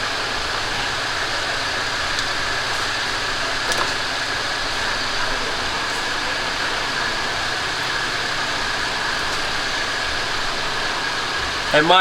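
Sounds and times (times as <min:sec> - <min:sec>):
high whine: 0:00.0 - 0:12.0
machine hiss: 0:00.0 - 0:12.0.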